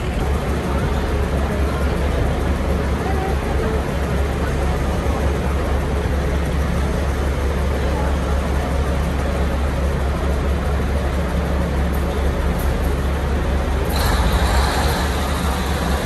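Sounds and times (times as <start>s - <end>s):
diesel railcar engine drone: 0.0s - 16.0s
train rolling noise: 0.0s - 16.0s.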